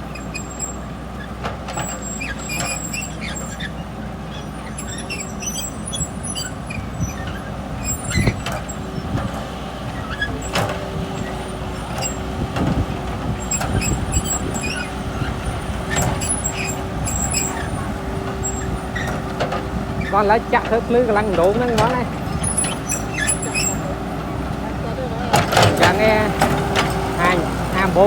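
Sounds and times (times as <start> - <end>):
heavy vehicle engine running: 0.0 - 28.0.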